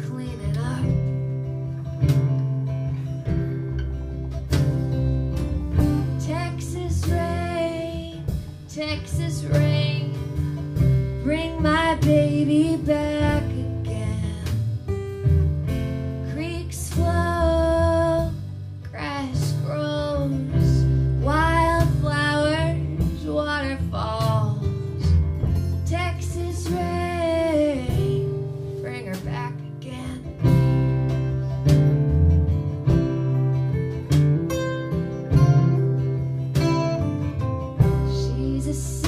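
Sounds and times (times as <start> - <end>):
strummed acoustic guitar: 0.0 - 39.0.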